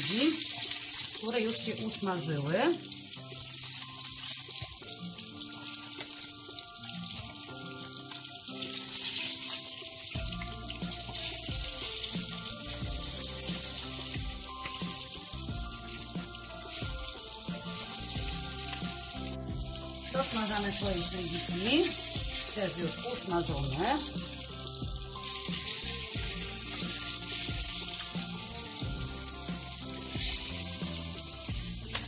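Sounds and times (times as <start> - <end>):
background music: 0.0 - 32.0
fish sizzling in hot oil: 0.0 - 32.0.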